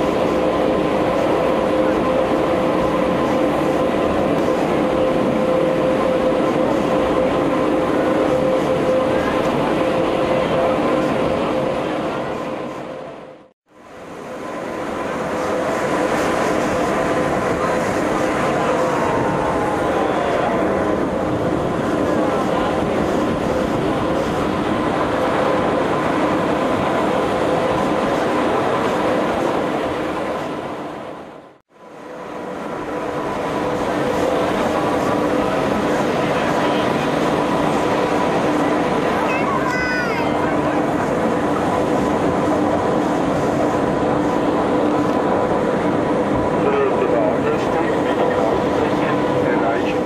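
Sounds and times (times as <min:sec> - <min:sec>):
railcar drive whine: 0:00.0 - 0:50.0
railcar running rumble: 0:00.0 - 0:50.0.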